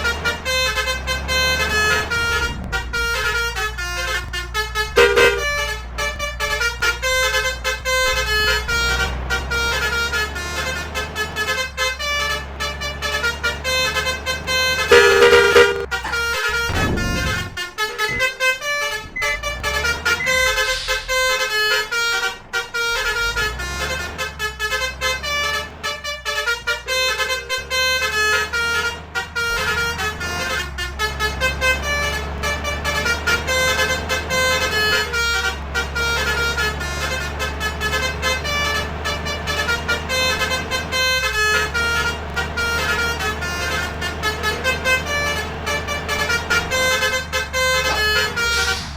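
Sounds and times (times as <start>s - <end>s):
low engine hum: 0.0s - 48.9s
multi-trumpet vehicle horns melody: 0.0s - 48.9s.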